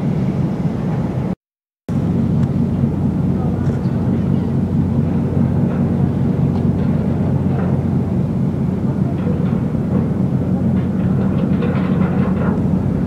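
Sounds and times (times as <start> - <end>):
low diesel engine drone: 0.0 - 13.0.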